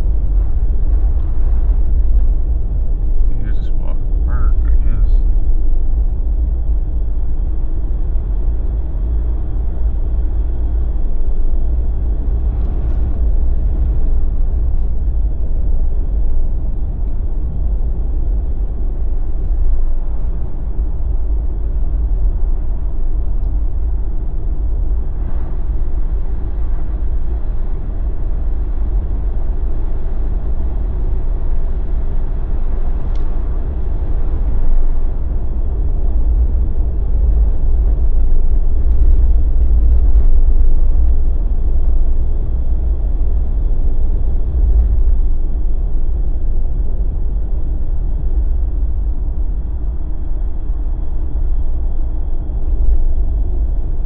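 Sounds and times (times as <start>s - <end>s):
vehicle road and engine rumble: 0.0s - 54.0s.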